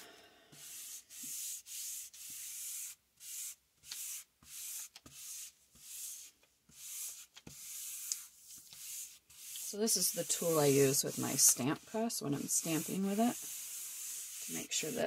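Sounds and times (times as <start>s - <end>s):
tool rubbing on paper: 0.6s - 15.0s.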